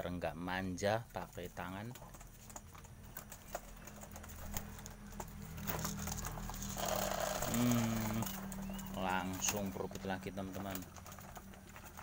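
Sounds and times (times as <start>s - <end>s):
doves pecking corn clicks: 0.0s - 12.0s.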